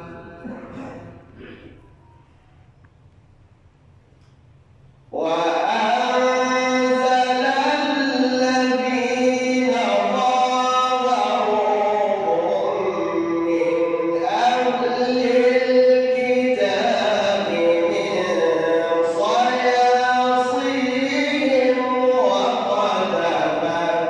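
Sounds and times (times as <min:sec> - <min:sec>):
man reciting melodically with echo: 0:00.0 - 0:02.0, 0:04.4 - 0:24.0.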